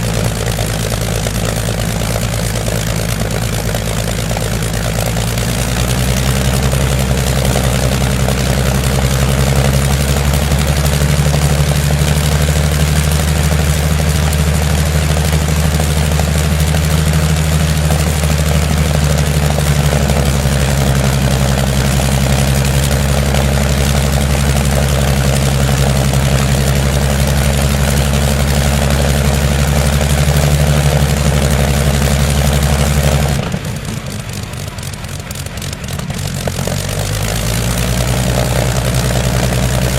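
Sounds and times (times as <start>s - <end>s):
engine running with low hum: 0.0s - 39.9s.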